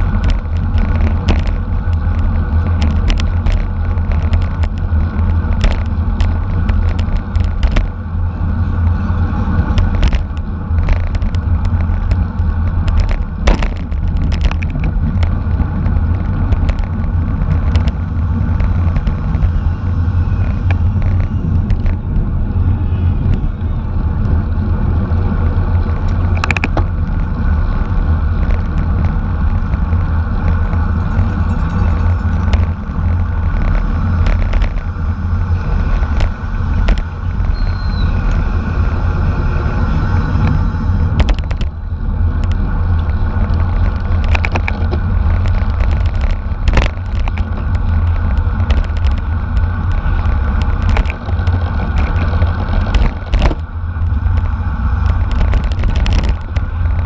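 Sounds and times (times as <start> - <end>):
bike clicks and knocks: 0.0 - 24.4, 25.0 - 38.9, 40.4 - 57.0
wind rushing over microphone: 0.0 - 57.0.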